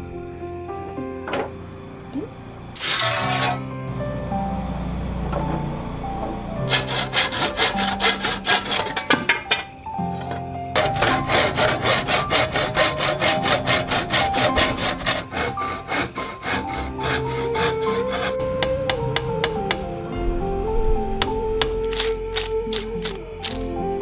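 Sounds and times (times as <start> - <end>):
soft background music: 0.0 - 24.0
rhythmic scraping strokes: 2.8 - 4.6, 5.2 - 9.5, 10.7 - 24.0.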